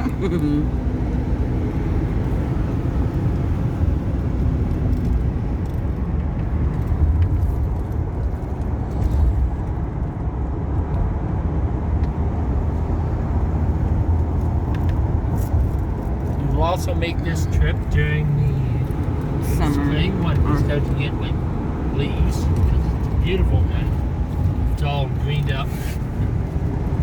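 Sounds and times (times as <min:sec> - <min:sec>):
van road and engine rumble: 0:00.0 - 0:27.0.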